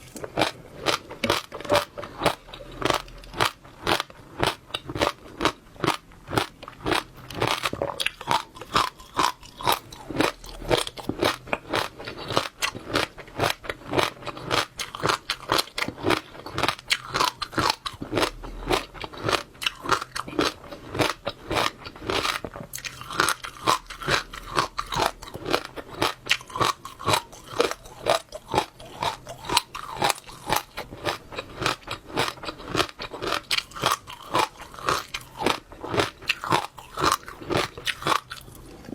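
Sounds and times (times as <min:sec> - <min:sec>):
chewing crunchy seeds: 0:00.0 - 0:38.9.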